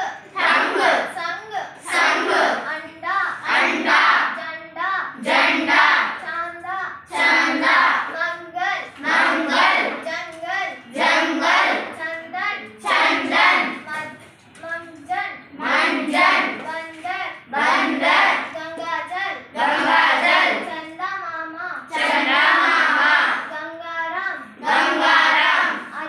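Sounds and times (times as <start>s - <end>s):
girl reading words aloud: 0.0s - 26.0s.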